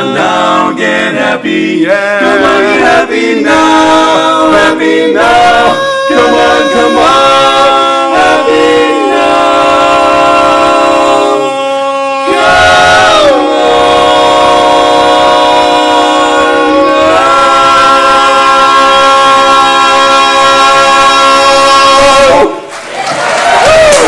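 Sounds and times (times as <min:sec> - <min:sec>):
men singing a cappella chords: 0:00.0 - 0:22.6.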